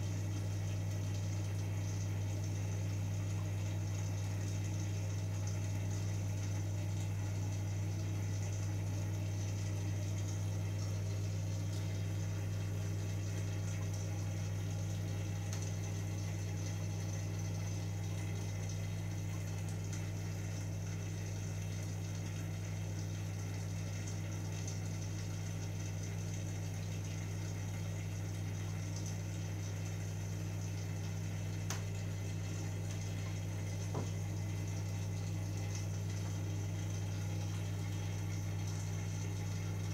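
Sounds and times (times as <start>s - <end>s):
filter pump humming: 0.0s - 39.9s.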